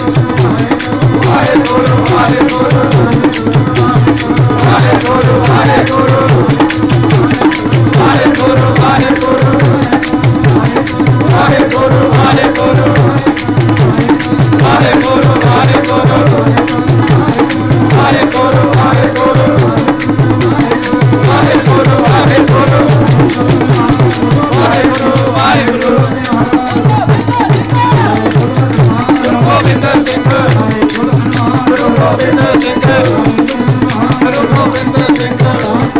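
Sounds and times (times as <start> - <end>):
group singing hymns: 0.0 - 35.9
jingling hand percussion: 0.0 - 35.9
steady drum: 0.0 - 35.9.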